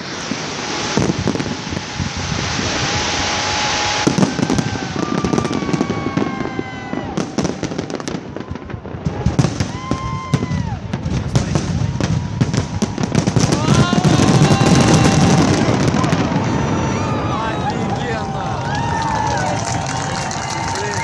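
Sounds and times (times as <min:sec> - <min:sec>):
fireworks crackling pops: 0:00.0 - 0:21.0
fireworks hissing rush: 0:00.0 - 0:21.0.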